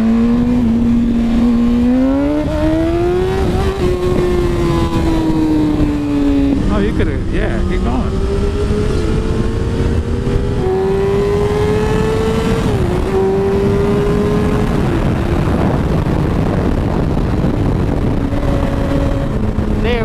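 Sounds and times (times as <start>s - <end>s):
motorcycle engine accelerating: 0.0s - 20.0s
wind rush: 0.0s - 20.0s.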